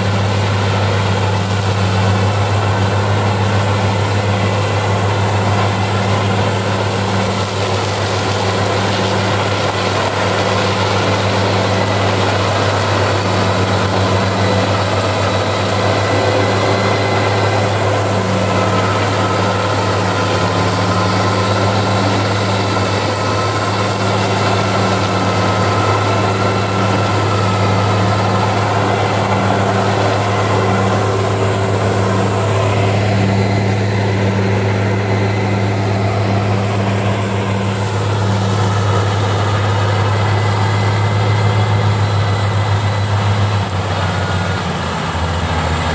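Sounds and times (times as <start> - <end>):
rotary mower cutting grass: 0.0 - 45.9
tractor engine running under load: 0.0 - 45.9.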